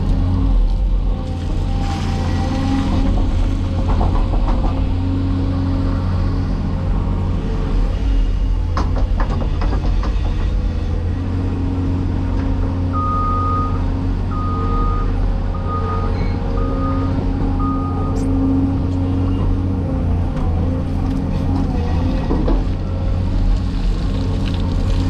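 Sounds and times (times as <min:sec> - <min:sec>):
diesel construction equipment rumbling: 0:00.0 - 0:25.0.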